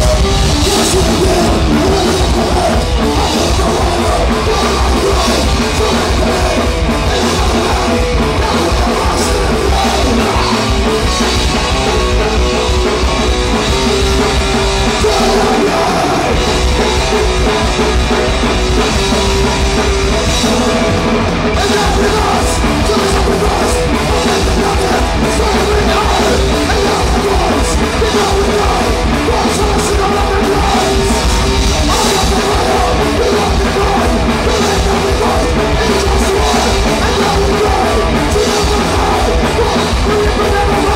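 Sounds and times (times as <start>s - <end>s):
shouted vocals: 0.0s - 13.0s, 13.8s - 17.9s, 20.4s - 40.9s
drum kit: 0.0s - 40.9s
punk rock band playing live: 0.0s - 40.9s.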